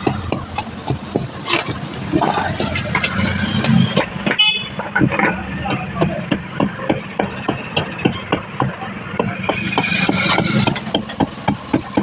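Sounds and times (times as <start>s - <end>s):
rhythmic knocking: 0.0s - 12.0s.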